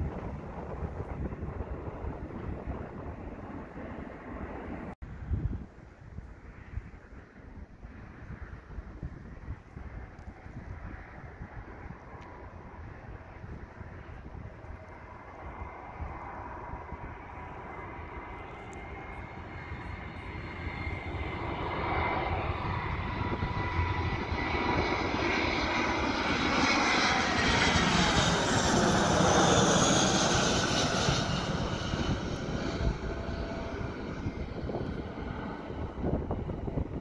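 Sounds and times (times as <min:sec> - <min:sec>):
jet airliner passing overhead: 0:00.0 - 0:05.4, 0:06.2 - 0:37.0.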